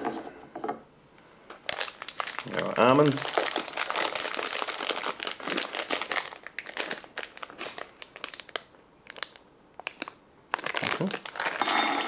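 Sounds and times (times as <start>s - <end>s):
food packaging crinkling: 1.6s - 12.0s.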